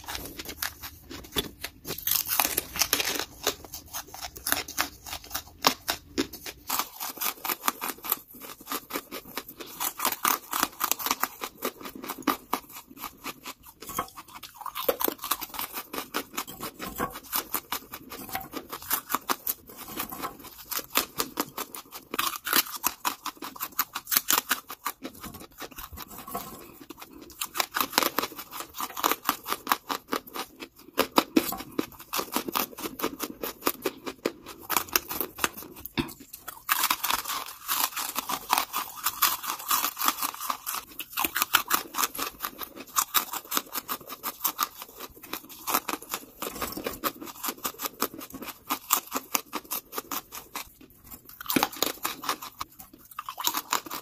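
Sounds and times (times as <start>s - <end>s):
person crunching charcoal: 0.0s - 54.0s.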